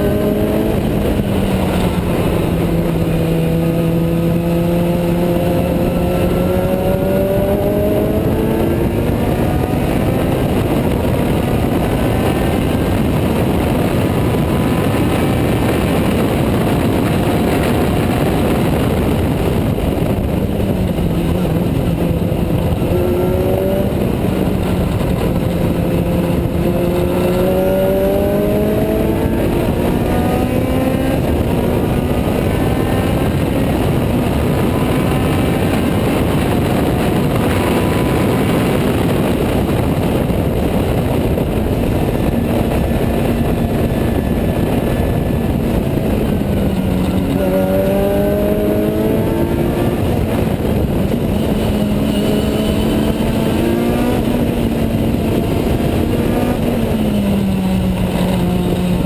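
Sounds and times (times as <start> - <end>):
car engine racing at full throttle: 0.0 - 59.0
wind and road noise: 0.0 - 59.0.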